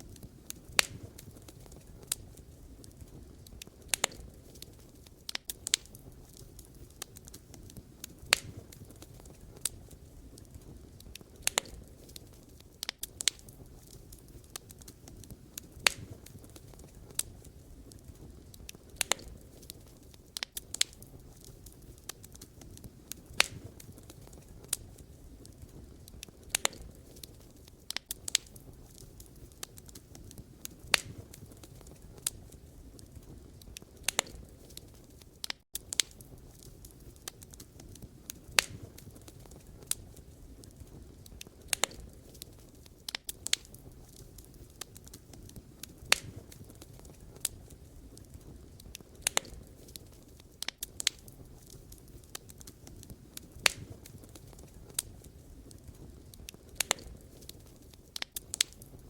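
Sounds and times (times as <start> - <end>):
campfire crackling and popping: 0.0 - 59.0
low rumble of flames: 0.0 - 59.0.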